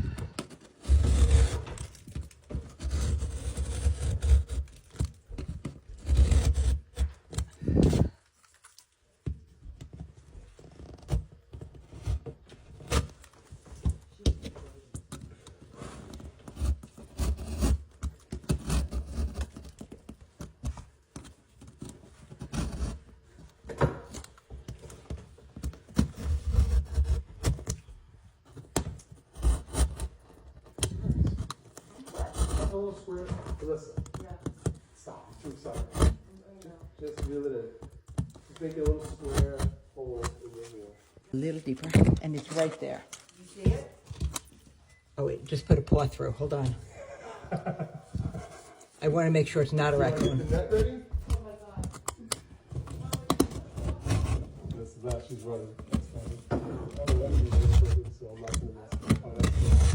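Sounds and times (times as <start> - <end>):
hand tool cutting drywall: 0.0 - 8.2, 10.6 - 27.9, 28.6 - 40.6, 49.0 - 59.9.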